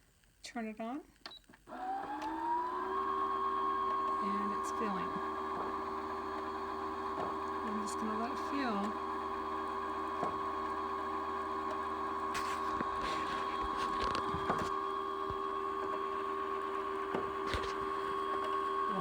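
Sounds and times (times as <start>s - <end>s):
sewing machine motor humming: 1.7s - 19.0s.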